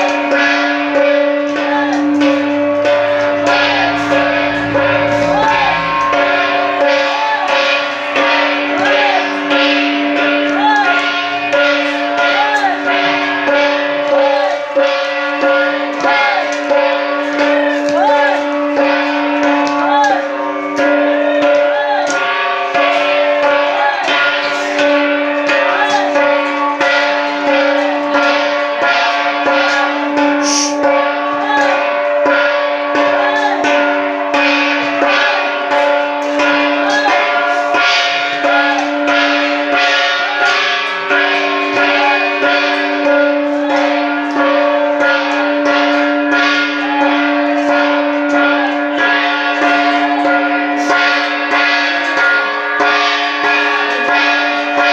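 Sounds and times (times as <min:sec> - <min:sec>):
metal bells jingling: 0:00.0 - 0:54.9.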